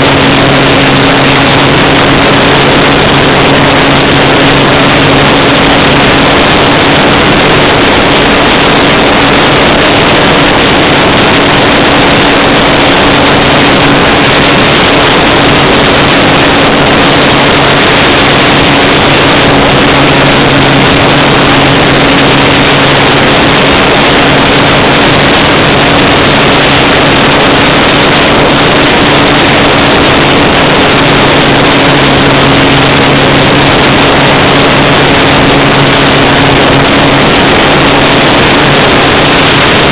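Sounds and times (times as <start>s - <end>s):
model plane motor humming: 0.0s - 39.9s
rush of air: 0.0s - 39.9s.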